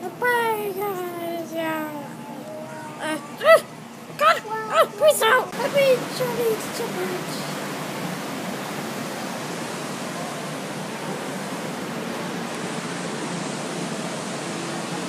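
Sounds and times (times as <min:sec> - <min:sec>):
ocean surf breaking: 0:02.6 - 0:15.0.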